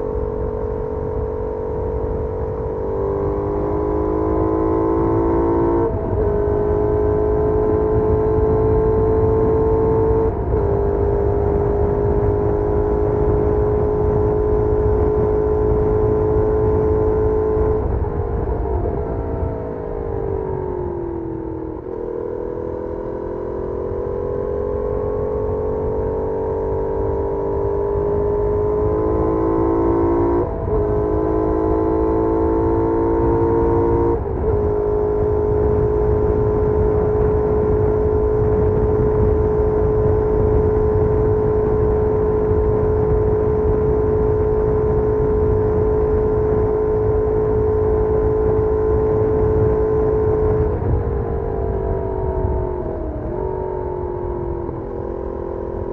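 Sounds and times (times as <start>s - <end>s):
motorcycle engine: 0.0s - 55.9s
wind and road noise: 0.0s - 55.9s.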